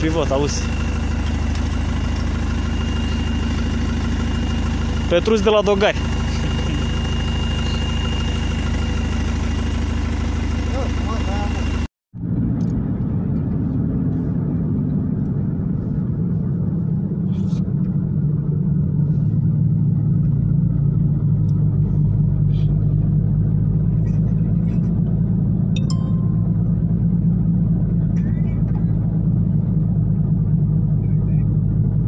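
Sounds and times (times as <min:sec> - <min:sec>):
engine and tyre drone in car: 0:00.0 - 0:32.0.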